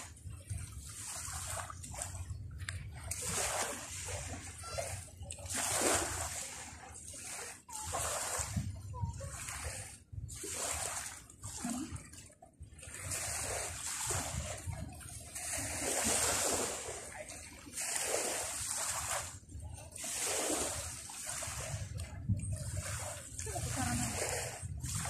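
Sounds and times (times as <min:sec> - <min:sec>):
sea waves splashing on beach: 0:00.0 - 0:25.0.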